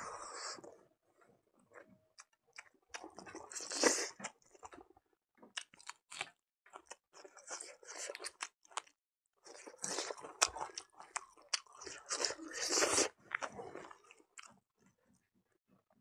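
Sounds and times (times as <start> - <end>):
person chewing food: 1.6 - 14.6.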